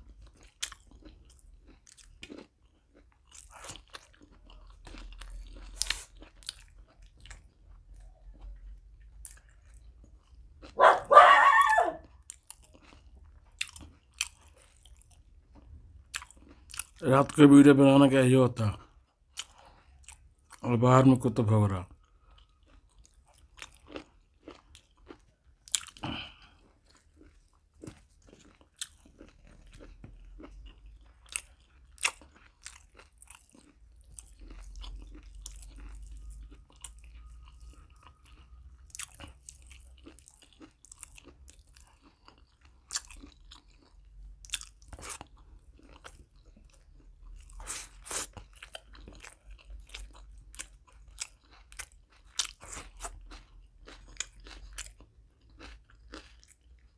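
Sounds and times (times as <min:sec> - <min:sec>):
food crunches: 0:00.0 - 0:10.8, 0:11.6 - 0:17.5, 0:22.2 - 0:56.9
person chewing food: 0:00.0 - 0:56.9.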